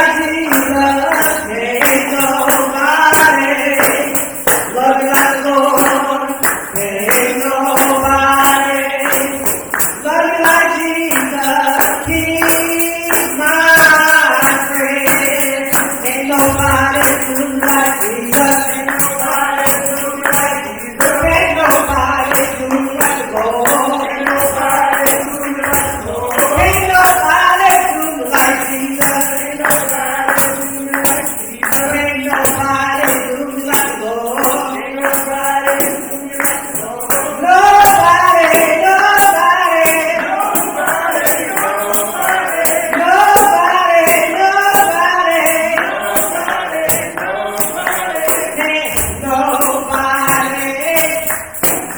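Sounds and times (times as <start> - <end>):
hand clapping: 0.0 - 51.9
tambourine beat: 0.0 - 51.9
voices singing along: 0.0 - 51.9
woman leading gospel singing: 0.0 - 51.9.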